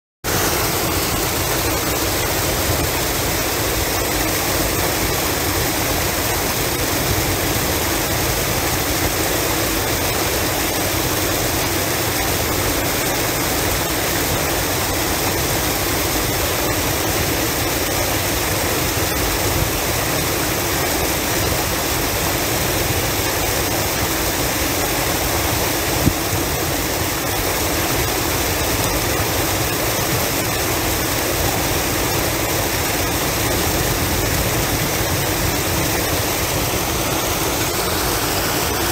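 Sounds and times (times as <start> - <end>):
waterfall rushing: 0.2 - 38.9.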